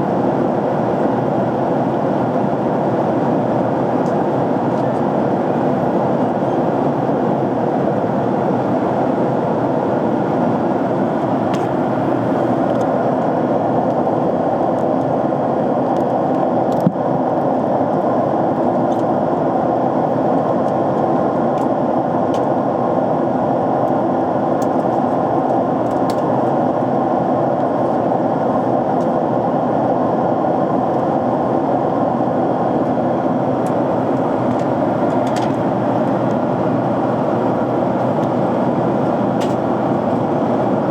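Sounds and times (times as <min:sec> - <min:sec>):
jet engines and airflow rushing: 0:00.0 - 0:40.9.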